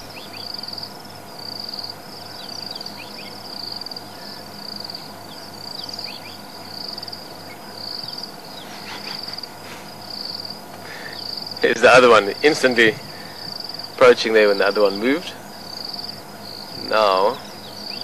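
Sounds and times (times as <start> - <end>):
insect trilling in pulses: 0.0 - 18.0.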